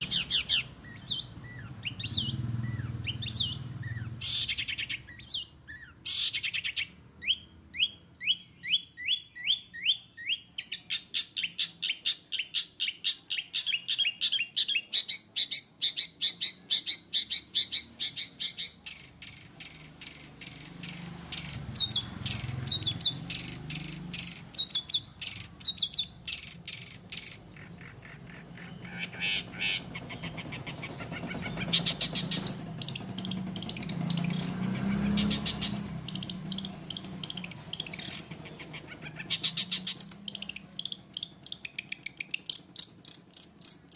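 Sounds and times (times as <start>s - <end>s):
shrike singing varied song: 0.0s - 43.9s.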